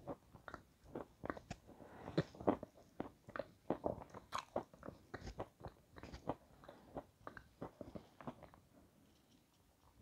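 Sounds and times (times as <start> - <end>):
crisp crunchy chewing: 0.0 - 8.6.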